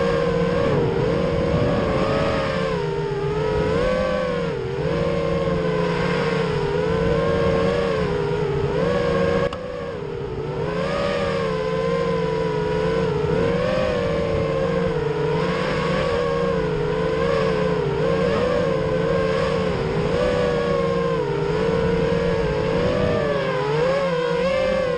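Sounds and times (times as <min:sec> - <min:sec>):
quadcopter motors whining: 0:00.0 - 0:24.9.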